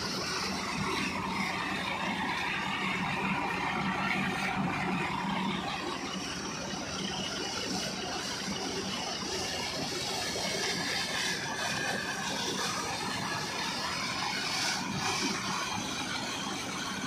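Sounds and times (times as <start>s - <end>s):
steady low hum: 0.0s - 17.0s
water splashing from wheel: 0.0s - 17.0s.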